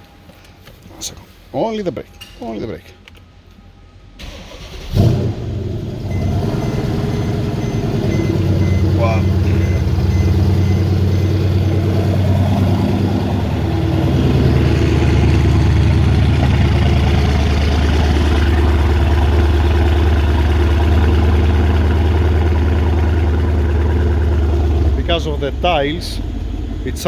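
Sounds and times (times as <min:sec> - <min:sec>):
car engine idling: 0:04.2 - 0:27.0.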